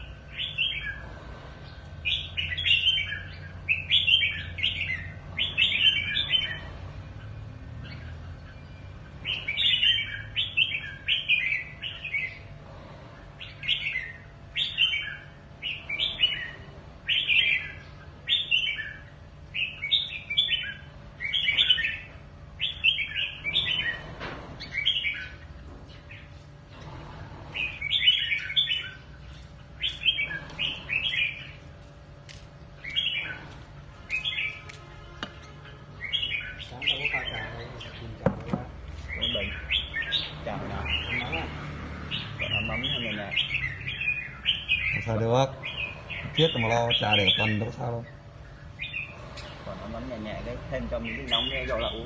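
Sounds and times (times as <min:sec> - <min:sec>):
bird warbling song: 0:00.0 - 0:52.0.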